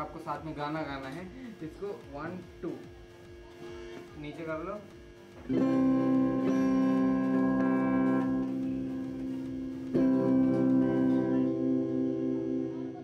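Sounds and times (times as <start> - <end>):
clean electric guitar chords ringing: 0.0 - 13.0.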